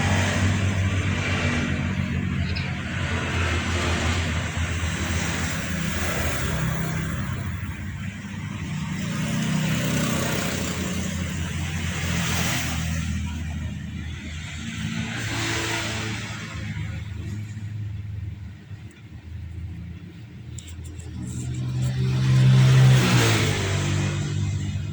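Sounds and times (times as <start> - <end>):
road noise: 0.0 - 24.9
vehicle engine hum: 0.0 - 24.9.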